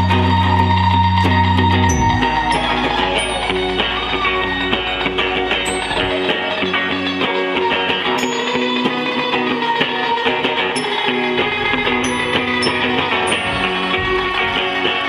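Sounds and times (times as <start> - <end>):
electric guitars: 0.0 - 15.0.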